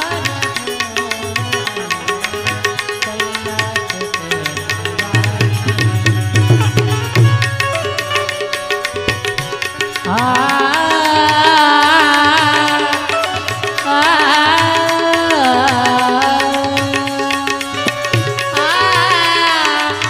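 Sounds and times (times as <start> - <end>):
tabla: 0.0 - 20.0.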